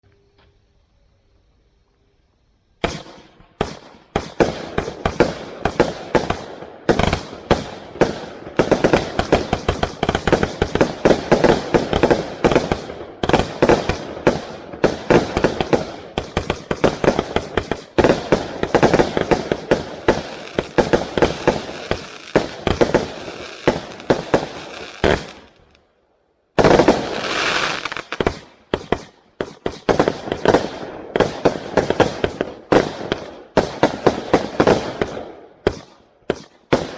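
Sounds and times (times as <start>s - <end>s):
fireworks shots and bursts: 2.8s - 25.8s, 26.5s - 36.9s.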